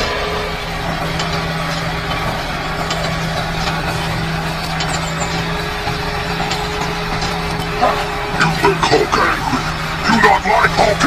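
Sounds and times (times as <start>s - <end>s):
tractor motor humming: 0.0s - 11.0s.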